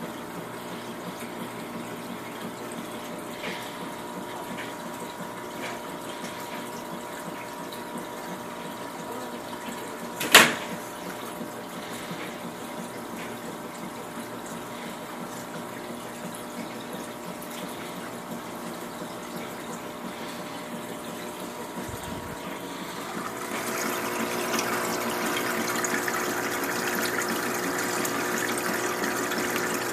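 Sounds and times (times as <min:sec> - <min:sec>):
aquarium filter water rush: 0:00.0 - 0:29.9.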